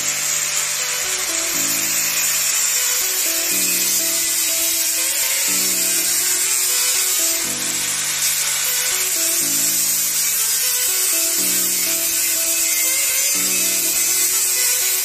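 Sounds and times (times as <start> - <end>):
angle grinder cutting metal: 0.0 - 15.0
background music: 0.0 - 15.0.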